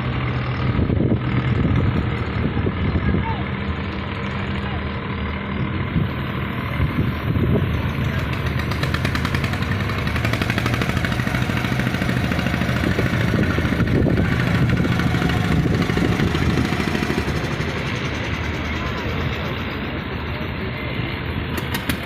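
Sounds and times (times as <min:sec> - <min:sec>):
engine chugging steadily: 0:00.0 - 0:22.0.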